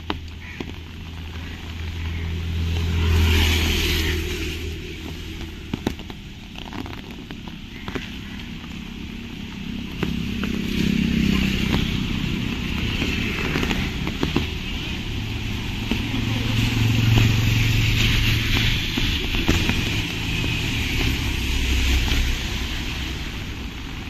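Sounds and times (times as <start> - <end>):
road traffic engine hum: 0.0 - 24.0.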